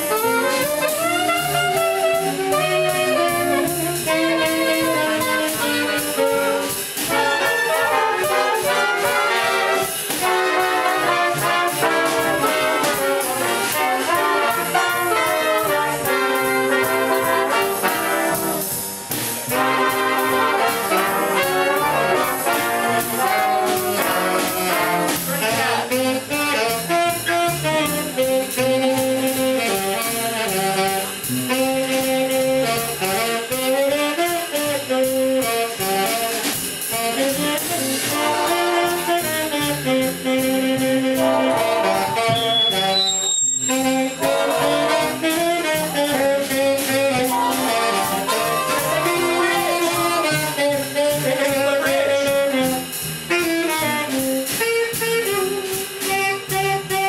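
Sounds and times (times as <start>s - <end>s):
big band playing jazz: 0.0s - 57.0s.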